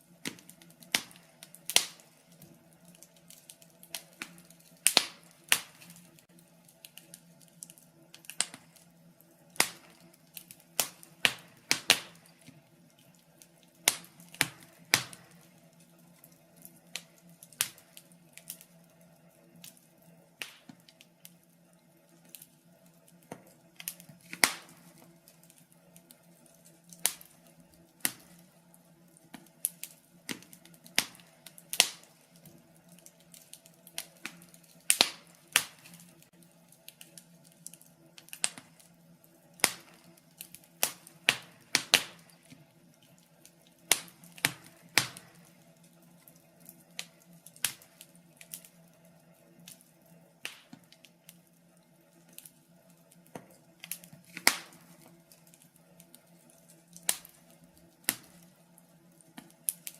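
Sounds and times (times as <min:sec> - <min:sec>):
logs crackling in fireplace: 0:00.0 - 0:59.9.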